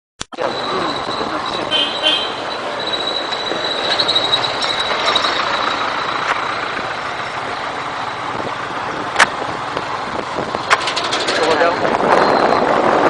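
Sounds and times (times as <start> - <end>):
vehicle road noise: 0.2 - 13.0.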